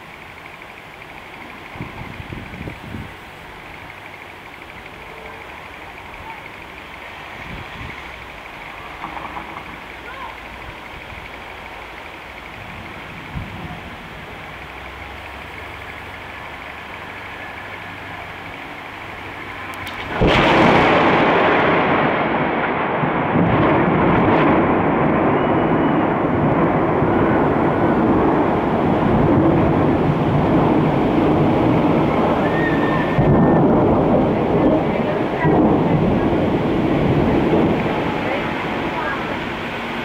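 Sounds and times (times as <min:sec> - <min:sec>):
thunderclap and rumble: 0:00.0 - 0:40.0.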